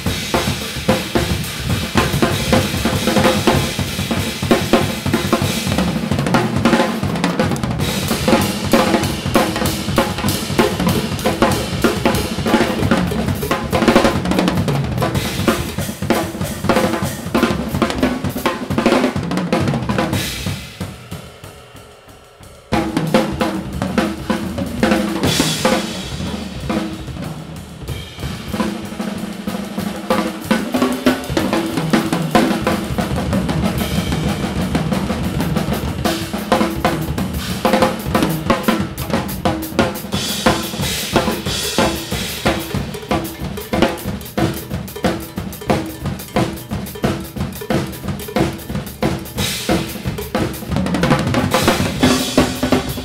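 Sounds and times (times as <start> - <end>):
drum kits playing: 0.0 - 53.0.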